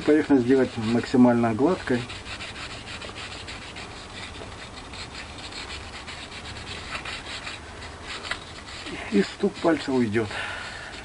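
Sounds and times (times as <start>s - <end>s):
sandpaper scratching on metal: 0.0s - 11.0s.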